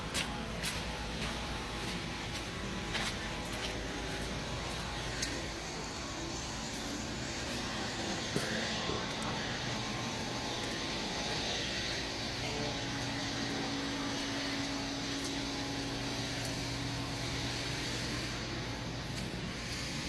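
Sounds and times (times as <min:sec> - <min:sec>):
higher steady hum: 0:00.0 - 0:20.0
machinery low hum: 0:00.0 - 0:20.0.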